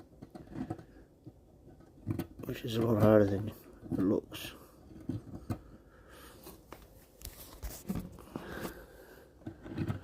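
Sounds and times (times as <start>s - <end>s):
objects handled clicking and rustling: 0.0s - 10.0s.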